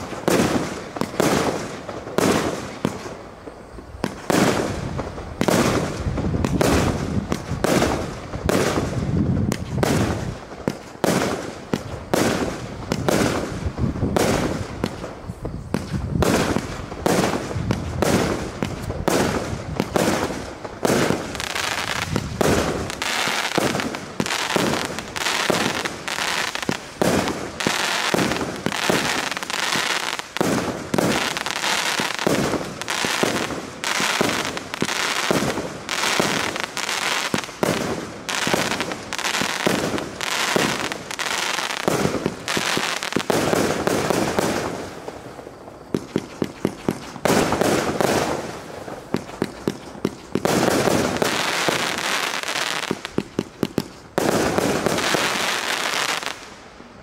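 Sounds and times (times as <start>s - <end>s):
firework aerial bursts: 0.0s - 56.7s.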